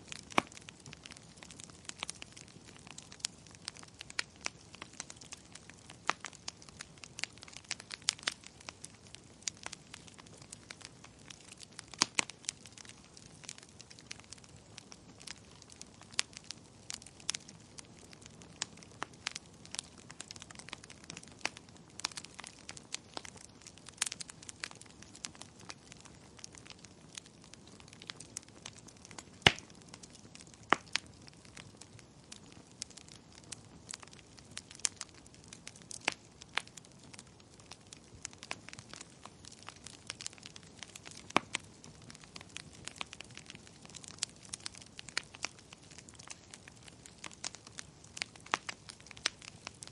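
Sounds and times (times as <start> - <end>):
soft steady hiss: 0.0 - 49.9
wood fire crackling and popping: 0.0 - 49.9.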